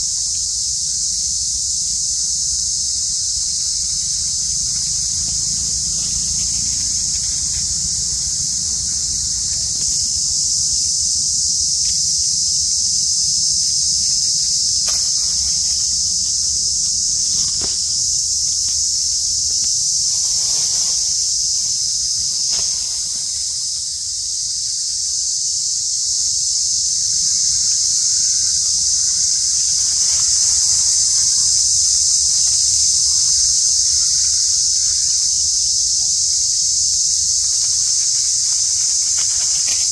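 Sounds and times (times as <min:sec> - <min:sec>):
insect chorus shrill drone: 0:00.0 - 0:39.9.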